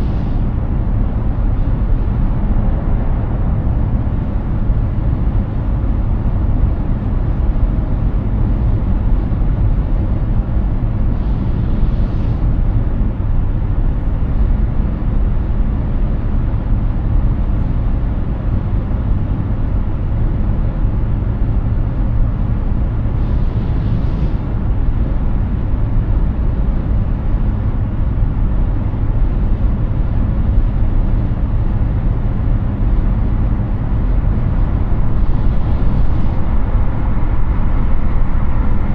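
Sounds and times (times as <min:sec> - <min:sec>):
tyre roar and wind rumble: 0:00.0 - 0:38.9.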